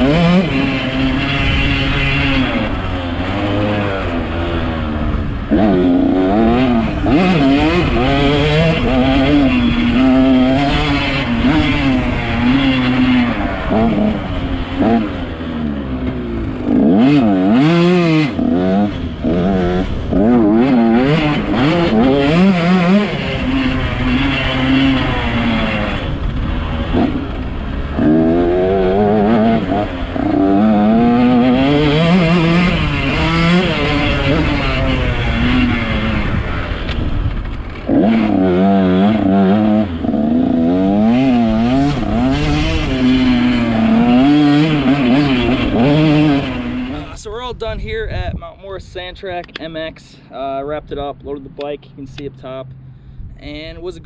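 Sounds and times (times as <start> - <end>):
motocross bike engine revving: 0.0 - 47.4.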